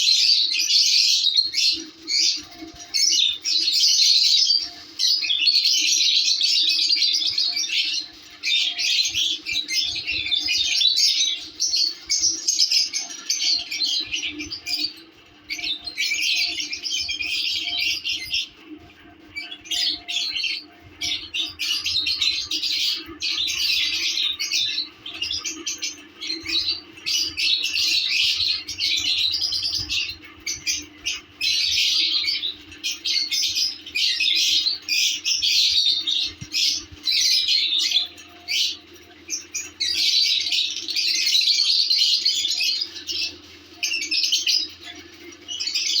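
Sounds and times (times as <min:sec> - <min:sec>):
lovebirds chirping and squawking: 0:00.0 - 0:46.0.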